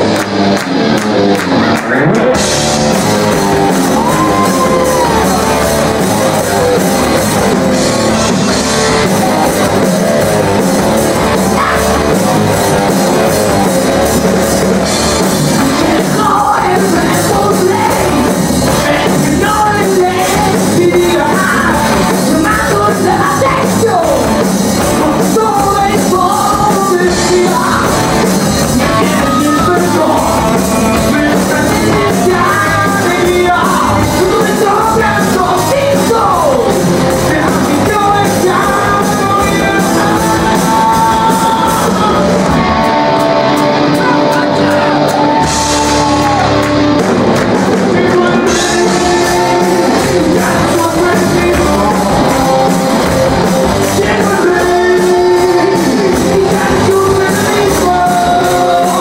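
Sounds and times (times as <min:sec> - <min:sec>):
bass guitar: 0:00.0 - 0:59.0
drums: 0:00.0 - 0:59.0
electric guitars: 0:00.0 - 0:59.0
lead singer singing: 0:01.9 - 0:59.0.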